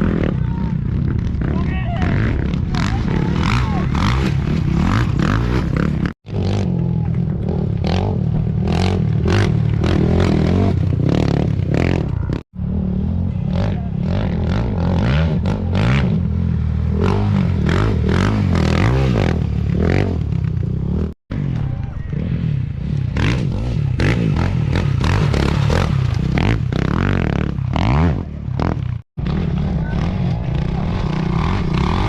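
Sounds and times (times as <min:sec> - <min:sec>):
heavy rumble: 0:00.0 - 0:32.0
motorcycle engines revving: 0:00.0 - 0:32.0.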